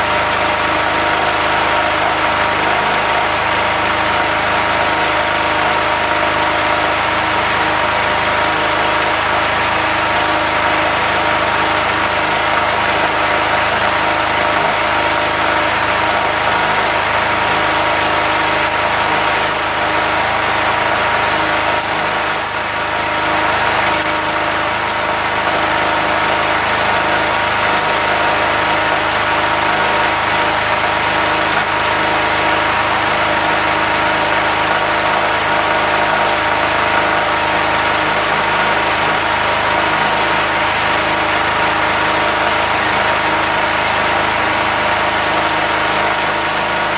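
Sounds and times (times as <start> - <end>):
portable generator running: 0.0 - 46.9.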